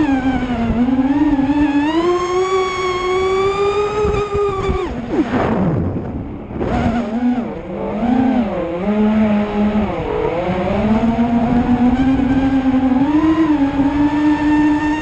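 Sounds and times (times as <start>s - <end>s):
drone motors whining: 0.0s - 15.0s
wind rumble on microphone: 0.0s - 15.0s.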